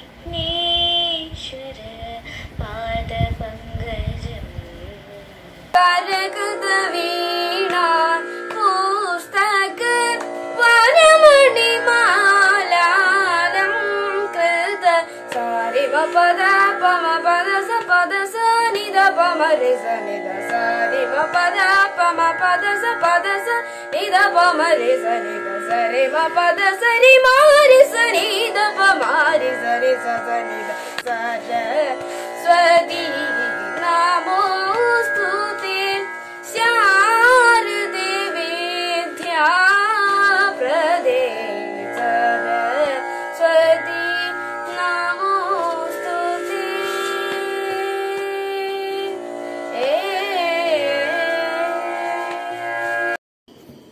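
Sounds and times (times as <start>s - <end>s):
boy singing: 0.2s - 49.2s
steady drone: 5.3s - 53.2s.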